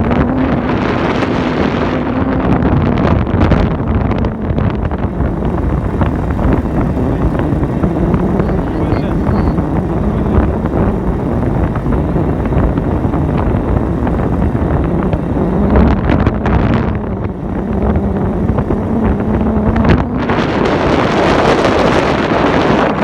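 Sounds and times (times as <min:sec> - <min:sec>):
road and wind noise: 0:00.0 - 0:23.0
vehicle engine hum: 0:00.0 - 0:23.0
wind buffeting microphone: 0:00.0 - 0:23.0.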